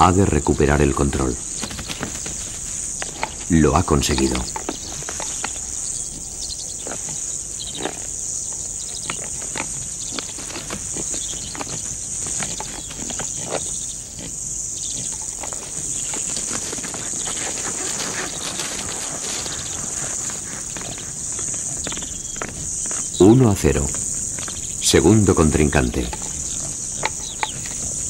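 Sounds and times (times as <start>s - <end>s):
animals grunting: 0.0s - 28.0s
insect chorus: 0.0s - 28.0s.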